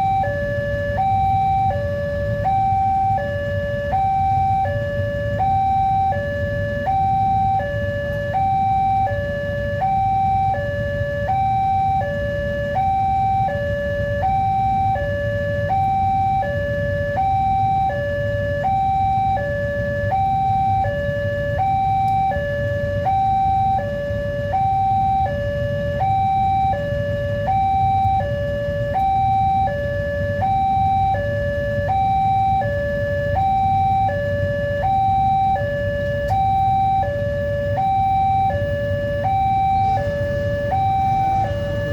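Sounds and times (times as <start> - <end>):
level crossing two-tone alarm: 0.0 - 41.9.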